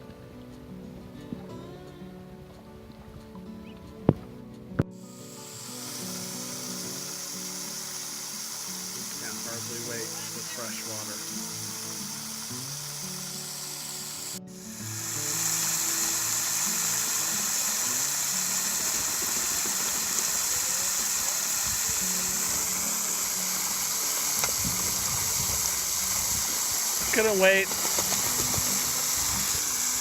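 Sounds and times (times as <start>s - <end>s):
background music: 0.0s - 30.0s
water running from a hose: 5.0s - 30.0s.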